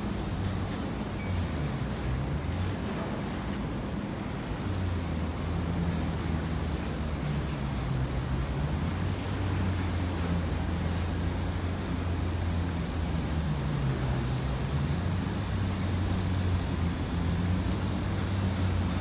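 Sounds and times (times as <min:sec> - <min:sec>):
harbour water noise: 0:00.0 - 0:19.0
wind: 0:00.0 - 0:19.0
ferry engine droning: 0:00.1 - 0:19.0.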